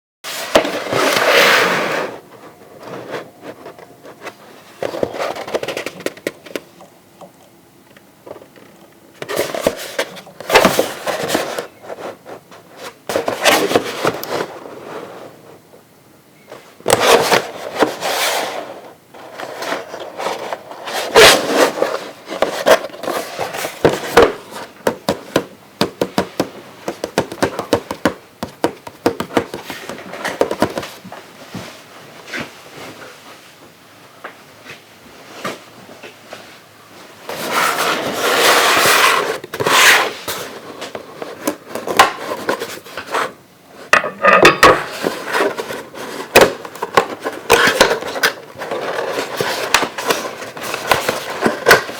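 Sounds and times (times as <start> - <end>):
packaging scraping and rustling: 0.3 - 6.7, 8.3 - 15.3, 16.6 - 31.0, 37.3 - 51.9.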